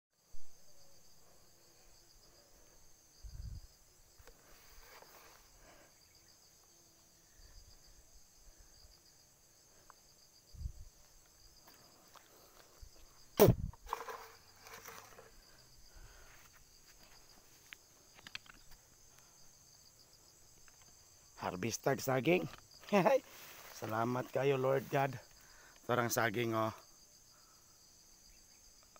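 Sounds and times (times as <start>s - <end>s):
insects chirring: 0.2s - 28.9s.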